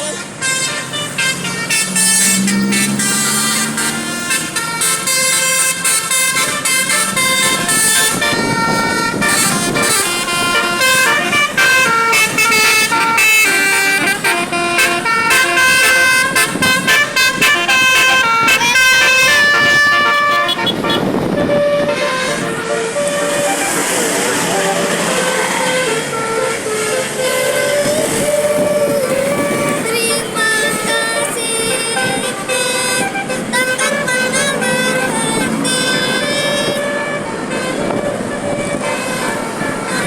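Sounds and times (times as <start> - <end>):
bus horn playing a tune: 0.0 - 40.0.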